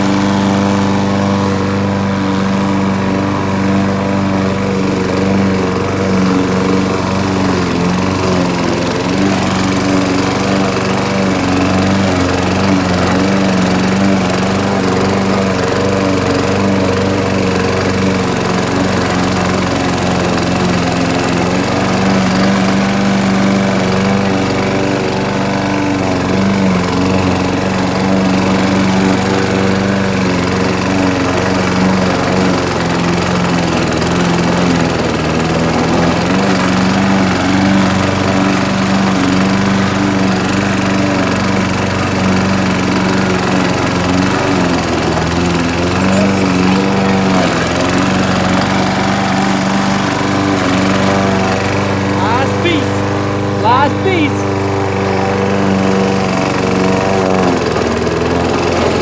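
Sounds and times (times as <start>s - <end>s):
push mower engine running: 0.0s - 59.0s.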